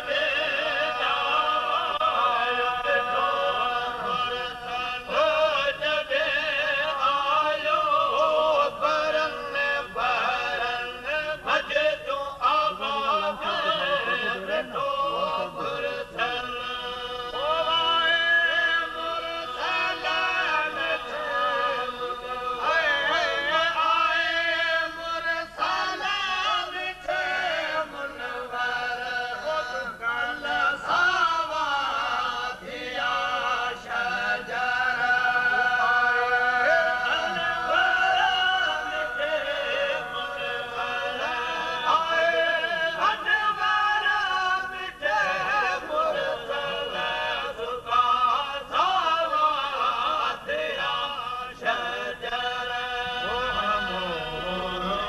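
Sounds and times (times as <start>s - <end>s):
men singing devotional verses: 0.0s - 55.0s.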